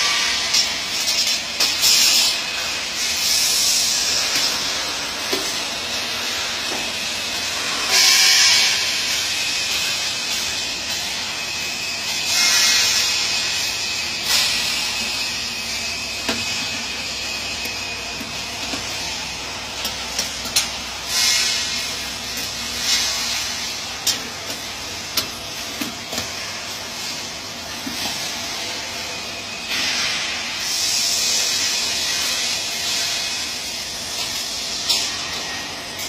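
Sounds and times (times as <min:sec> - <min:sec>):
welding arc hissing: 0:00.0 - 0:35.8.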